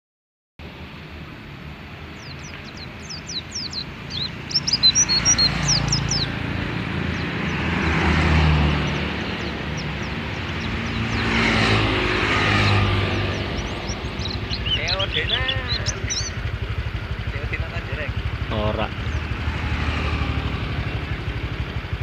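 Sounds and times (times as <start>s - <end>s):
vehicle passing on road: 0.6s - 22.0s
bird chirping: 2.0s - 16.7s, 17.3s - 21.6s.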